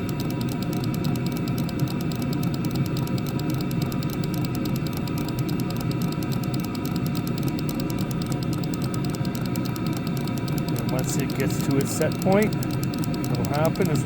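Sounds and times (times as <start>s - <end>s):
fast even pump ticking: 0.0s - 14.0s
heater blower and burner rumble: 0.0s - 14.0s.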